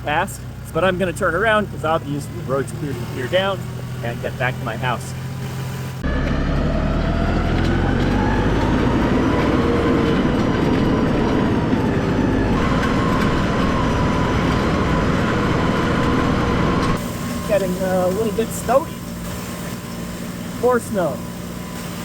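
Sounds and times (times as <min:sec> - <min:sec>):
rising vehicle whine: 0:00.0 - 0:22.0
vehicle engine and tyre rumble: 0:00.0 - 0:22.0.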